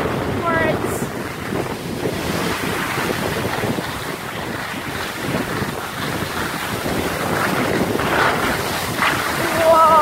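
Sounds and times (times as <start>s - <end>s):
skis sliding over snow: 0.0s - 10.0s
wind rushing on microphone: 0.0s - 10.0s.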